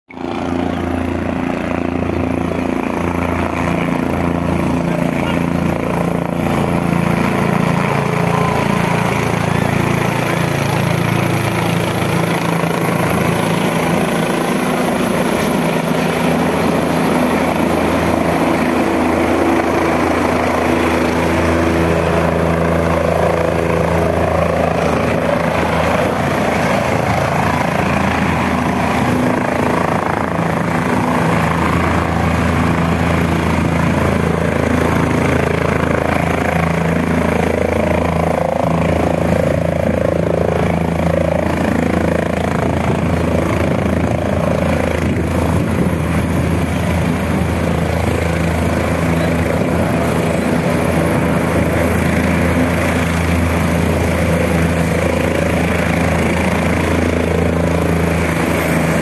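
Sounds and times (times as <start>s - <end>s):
helicopter rotor and engine: 0.1s - 59.0s.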